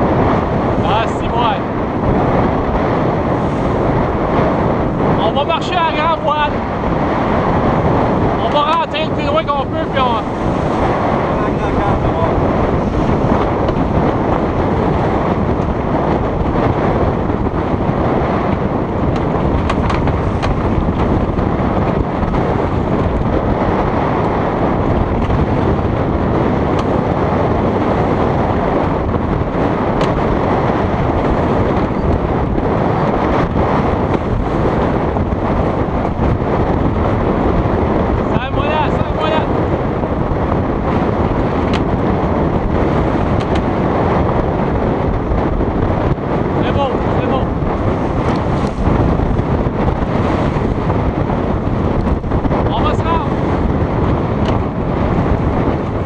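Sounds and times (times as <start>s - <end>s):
water rushing along hulls: 0.0s - 56.0s
wind buffeting microphone: 0.0s - 56.0s.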